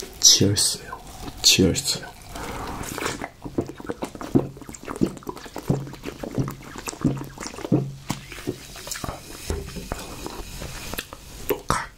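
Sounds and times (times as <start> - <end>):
man gulping soda: 0.0 - 11.9.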